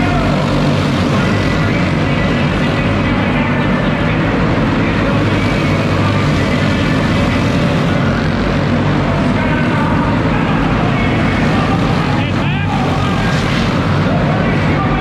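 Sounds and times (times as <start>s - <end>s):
go-kart engines droning: 0.0s - 15.0s.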